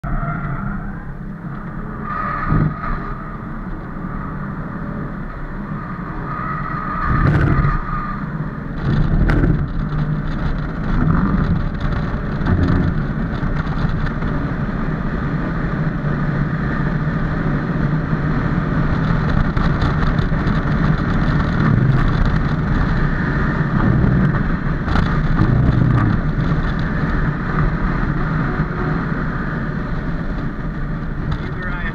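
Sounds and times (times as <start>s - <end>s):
car engine under hard load: 0.0s - 31.9s
road and wind noise: 0.0s - 31.9s.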